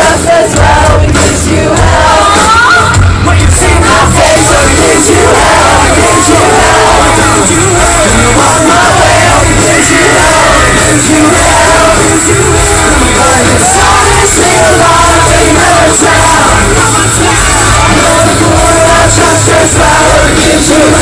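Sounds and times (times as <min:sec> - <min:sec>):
crowd yelling along: 0:00.0 - 0:21.0
live rock band: 0:00.0 - 0:21.0
person singing: 0:00.0 - 0:21.0.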